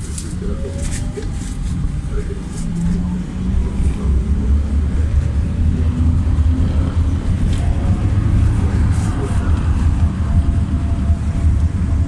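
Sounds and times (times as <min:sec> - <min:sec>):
vehicle interior road rumble: 0:00.0 - 0:12.0.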